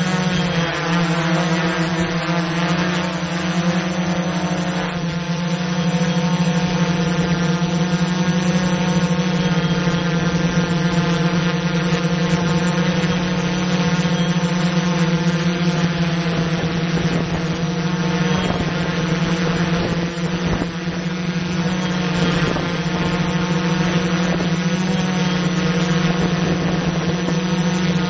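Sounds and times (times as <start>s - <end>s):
drone propellers buzzing: 0.0s - 28.0s.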